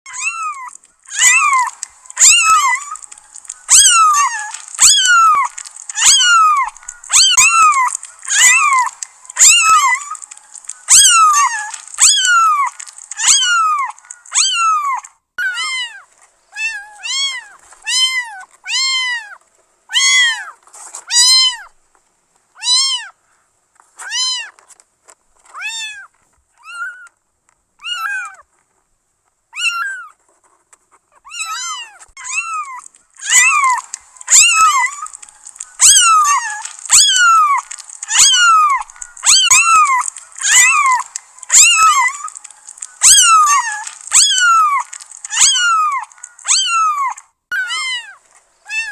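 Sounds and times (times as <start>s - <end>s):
kitten meowing: 0.1s - 21.8s, 22.6s - 23.2s, 24.0s - 24.6s, 25.5s - 27.2s, 27.8s - 28.4s, 29.6s - 30.2s, 31.2s - 48.9s
faint hiss and click: 0.1s - 48.9s.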